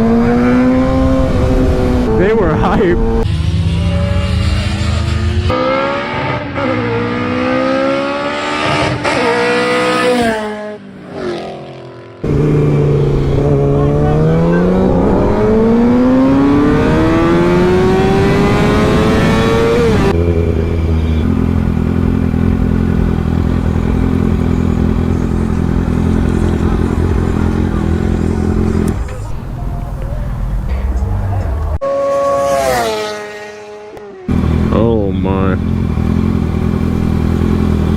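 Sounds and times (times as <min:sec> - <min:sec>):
motorcycle engine revving: 0:00.0 - 0:30.7, 0:31.8 - 0:37.9.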